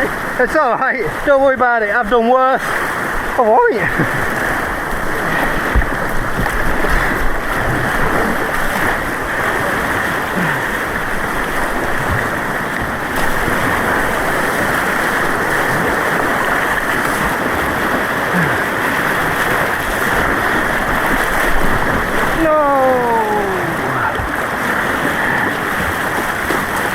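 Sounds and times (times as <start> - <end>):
rushing white water: 0.0 - 26.9.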